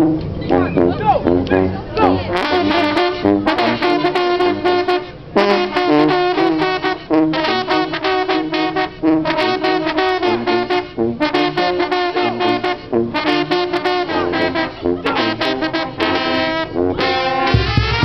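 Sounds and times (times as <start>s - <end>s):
brass band playing lively tune: 0.0s - 18.0s.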